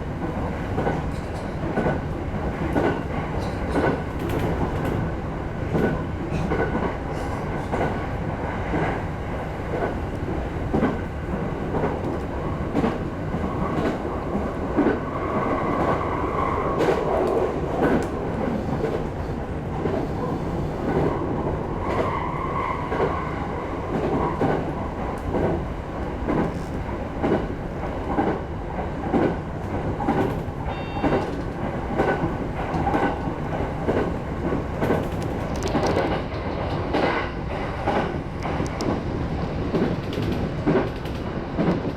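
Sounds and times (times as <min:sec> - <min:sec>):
train running rumble: 0:00.0 - 0:41.9
train wheels clicking on rail joints: 0:00.7 - 0:05.1, 0:05.7 - 0:09.0, 0:09.7 - 0:23.2, 0:23.9 - 0:41.9.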